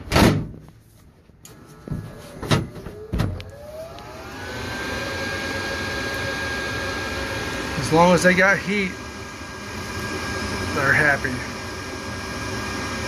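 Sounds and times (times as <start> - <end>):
furnace motor whine: 0.9 - 13.0.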